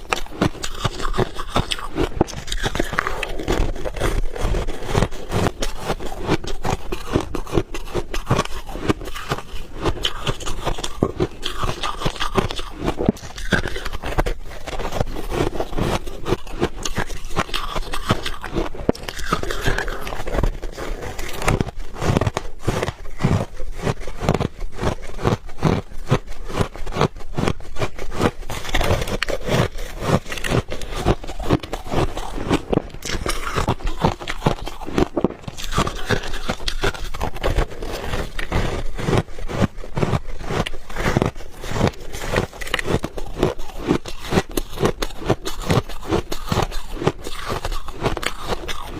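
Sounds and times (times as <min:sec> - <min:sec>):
ice being chewed: 0:00.0 - 0:48.9.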